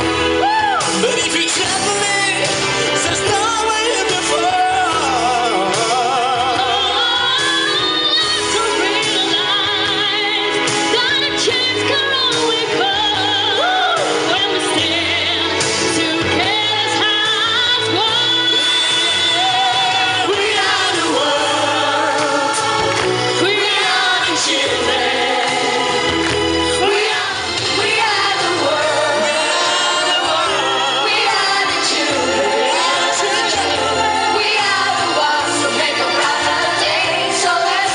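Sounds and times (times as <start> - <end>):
steady bass line: 0.0 - 37.9
voices singing with vibrato: 0.0 - 37.9.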